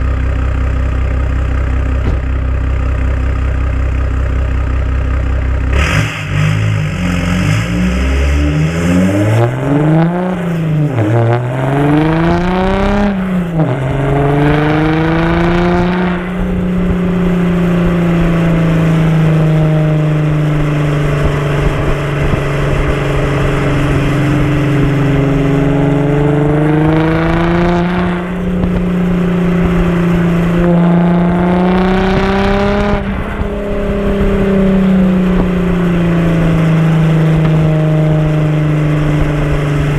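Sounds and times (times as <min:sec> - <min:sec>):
diesel car engine accelerating: 0:00.0 - 0:39.9.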